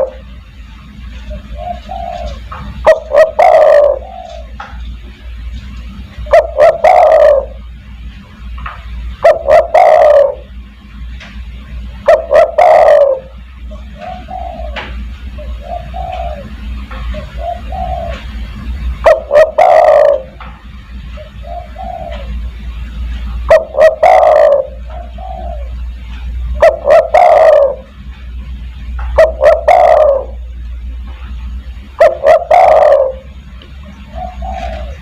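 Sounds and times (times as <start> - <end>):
dove cooing: 0.0 - 0.2, 1.1 - 5.2, 6.2 - 7.7, 9.1 - 10.6, 12.0 - 28.0, 29.0 - 31.0, 31.9 - 35.0
steady low hum: 0.0 - 35.0.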